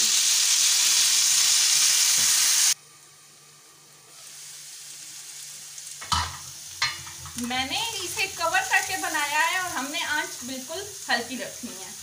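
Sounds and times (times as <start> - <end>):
potatoes sizzling in hot oil: 0.0 - 2.8, 3.8 - 12.0.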